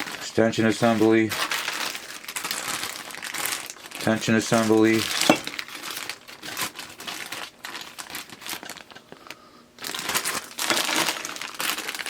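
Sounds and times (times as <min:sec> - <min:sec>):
crinkling and rustling of parts: 0:00.0 - 0:12.0.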